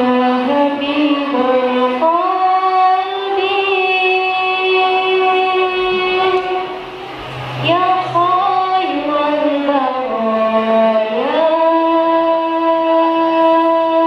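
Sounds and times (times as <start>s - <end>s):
girl singing into a microphone: 0.0s - 6.8s, 7.6s - 14.0s.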